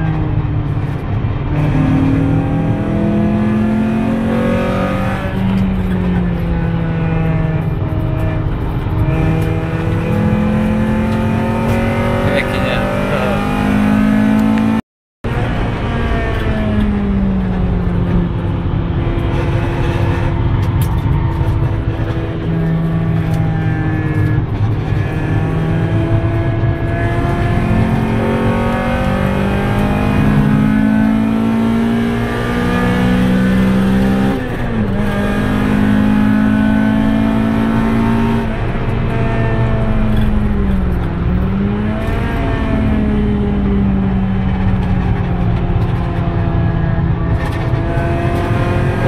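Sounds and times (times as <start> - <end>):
car engine revving: 0.0 - 49.0
road and wind rumble: 0.0 - 49.0.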